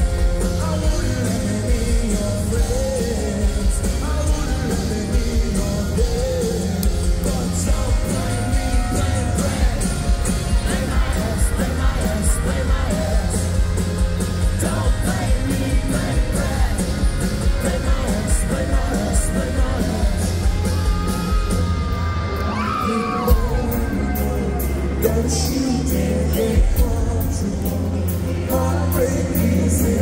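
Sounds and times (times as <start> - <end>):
drum kit steady beat: 0.0 - 22.2, 23.3 - 30.0
electric and acoustic guitars: 0.0 - 30.0
live rock band playing: 0.0 - 30.0.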